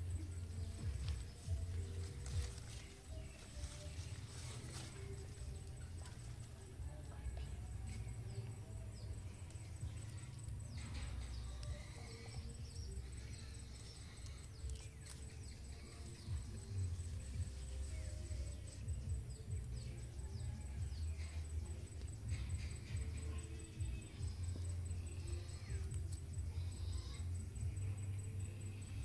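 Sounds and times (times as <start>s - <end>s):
insects and birds chirping: 0.0s - 29.0s.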